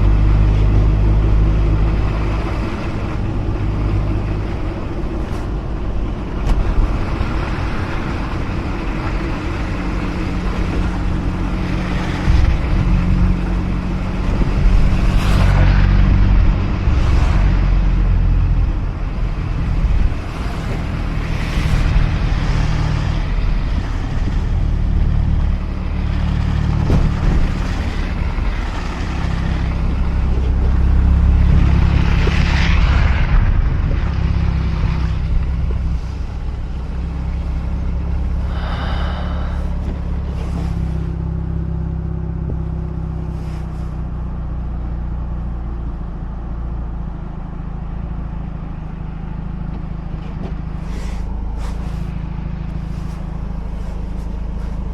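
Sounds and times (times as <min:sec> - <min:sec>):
car engine running while driving: 0:00.0 - 0:54.9
tyre and road noise: 0:00.0 - 0:54.9.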